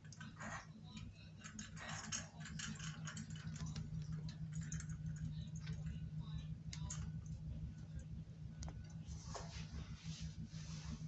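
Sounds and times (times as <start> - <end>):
low hum: 0.1 - 11.0.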